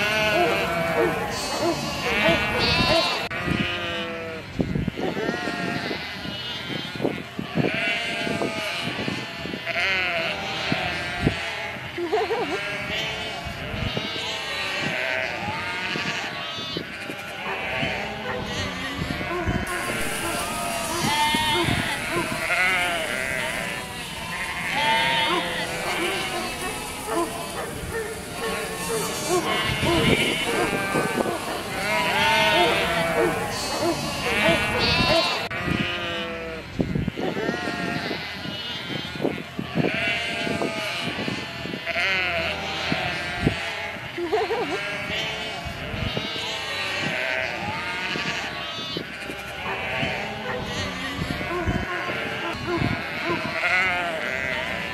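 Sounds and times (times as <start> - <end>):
sheep bleating: 0.0 - 54.9.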